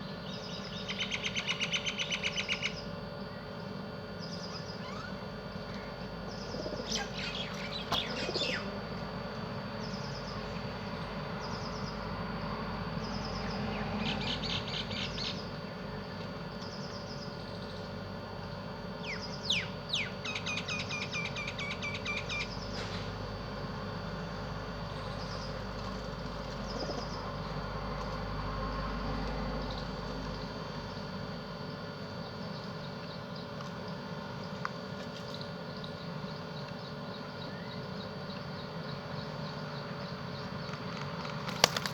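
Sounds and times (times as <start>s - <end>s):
small birds chirping: 0.0s - 8.8s, 9.7s - 12.2s, 12.9s - 23.2s, 24.7s - 27.8s, 31.6s - 41.9s.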